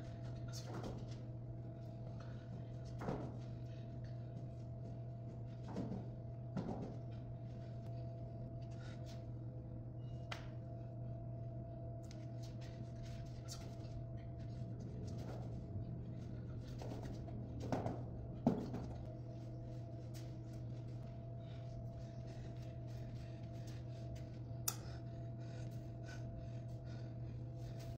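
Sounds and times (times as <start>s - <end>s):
steady low room hum: 0.0s - 27.9s.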